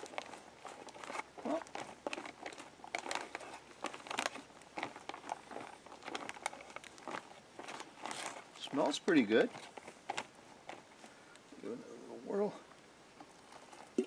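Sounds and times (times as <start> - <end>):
foil pouch crinkling: 0.0 - 11.4, 13.2 - 14.0.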